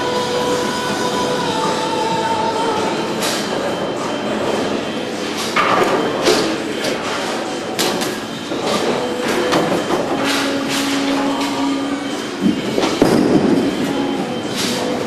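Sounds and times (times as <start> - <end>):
bowling lanes clattering: 0.0 - 15.0.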